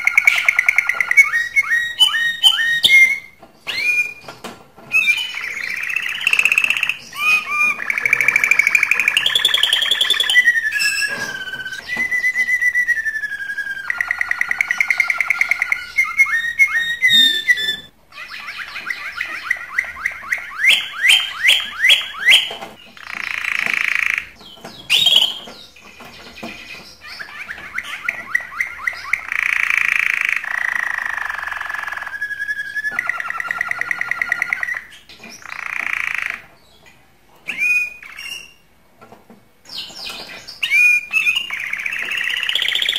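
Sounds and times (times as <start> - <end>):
canary singing: 0.0 - 38.8, 39.6 - 42.9.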